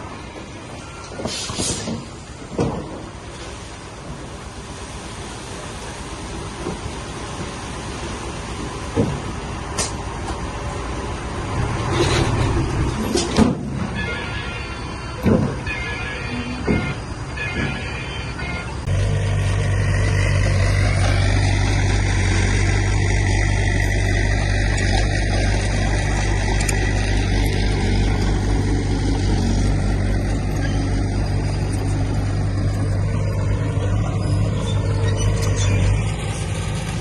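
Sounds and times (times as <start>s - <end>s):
earthmoving machine diesel engine: 0.0s - 37.0s.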